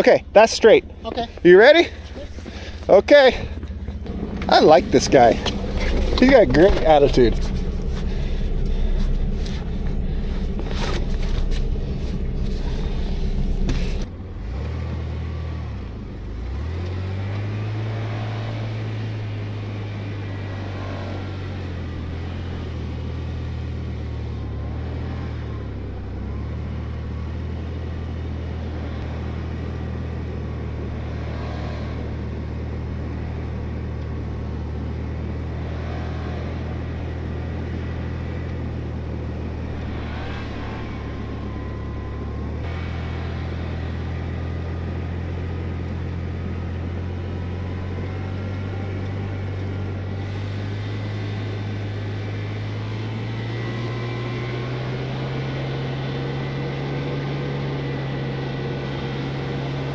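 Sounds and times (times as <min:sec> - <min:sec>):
vehicle engine pulling: 0:00.0 - 0:59.9.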